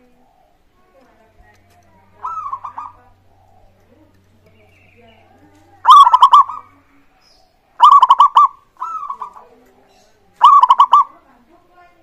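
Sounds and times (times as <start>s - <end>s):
dove cooing: 0.0s - 11.5s.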